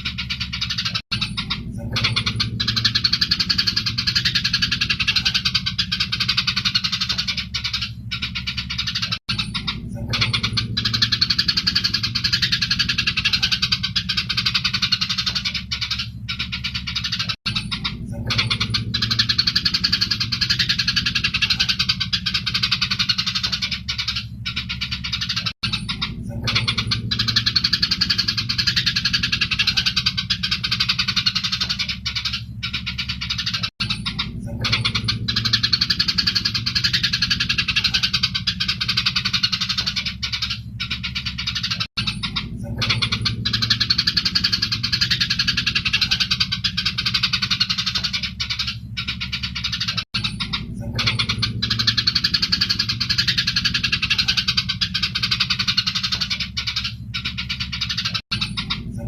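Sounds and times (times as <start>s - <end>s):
low hum: 0.0s - 59.0s
sparrows chirping: 0.0s - 59.0s.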